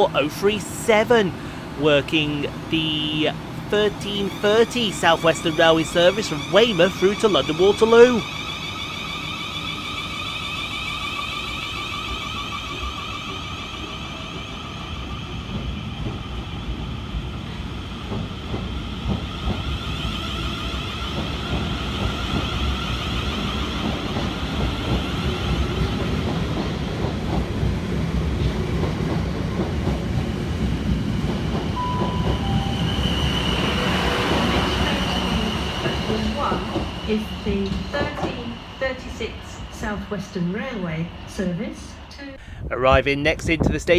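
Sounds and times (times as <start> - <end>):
electric train motors whining: 0.0 - 42.4.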